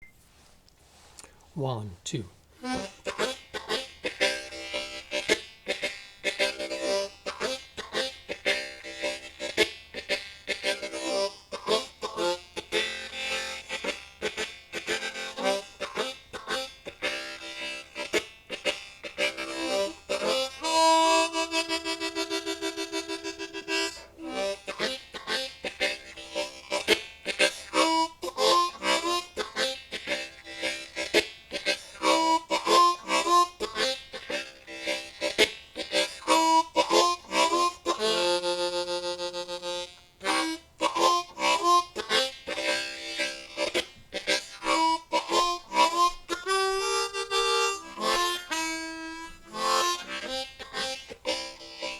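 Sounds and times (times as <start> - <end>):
harmonica playing blues shuffle: 2.5 - 51.9.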